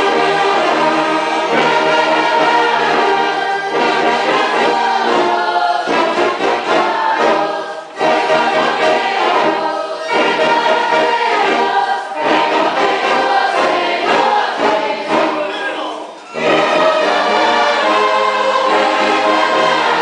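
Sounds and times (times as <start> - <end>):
choir singing a hymn: 0.0 - 20.0
church orchestra accompanying: 0.0 - 20.0.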